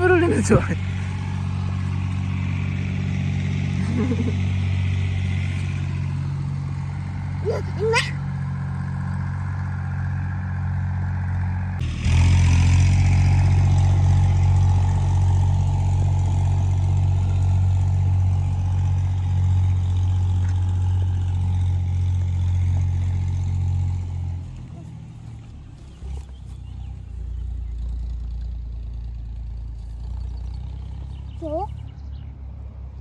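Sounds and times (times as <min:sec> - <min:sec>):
tractor engine droning: 0:00.0 - 0:33.0.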